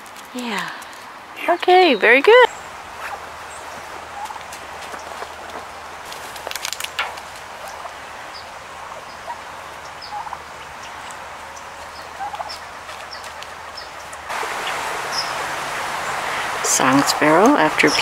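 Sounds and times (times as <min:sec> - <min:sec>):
steady background hiss: 0:00.0 - 0:18.0
turkeys calling softly: 0:00.8 - 0:16.6.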